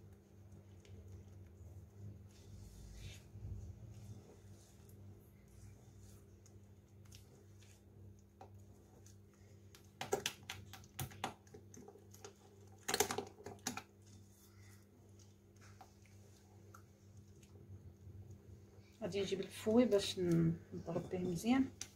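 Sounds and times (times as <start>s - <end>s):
spatula stirring batter: 0.0s - 21.9s.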